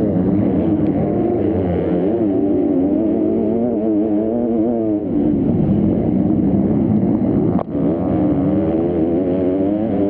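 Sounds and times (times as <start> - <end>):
motorbike engine revving: 0.0 - 6.1, 7.2 - 10.0.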